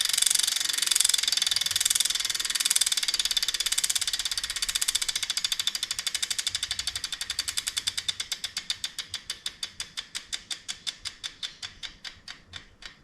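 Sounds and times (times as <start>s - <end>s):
bicycle freehub ticking: 0.0s - 13.0s.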